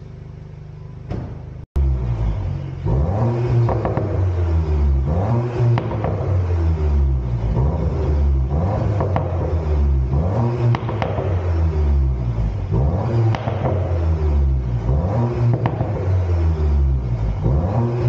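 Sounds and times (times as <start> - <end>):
car engine revving: 1.8 - 18.0.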